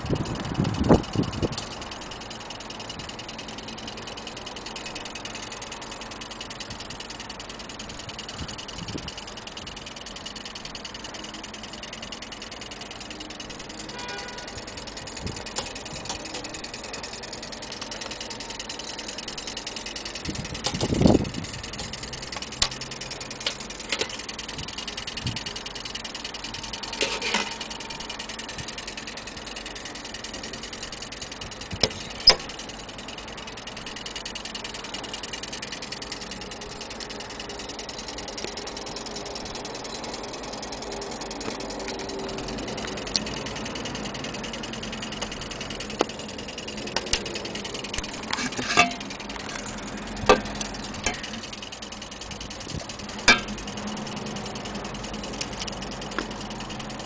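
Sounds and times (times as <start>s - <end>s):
short irregular clicks and knocks: 0.0s - 57.0s
steady background hum: 0.0s - 57.0s.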